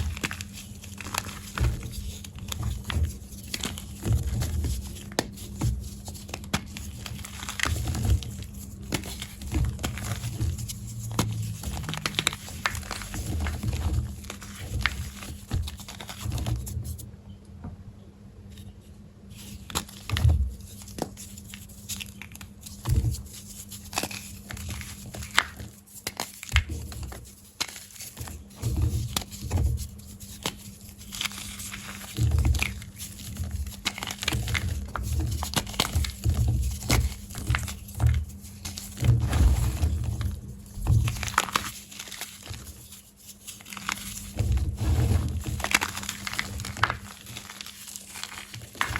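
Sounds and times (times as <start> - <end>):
chalk crunching and crumbling: 0.0 - 17.0, 19.4 - 48.9.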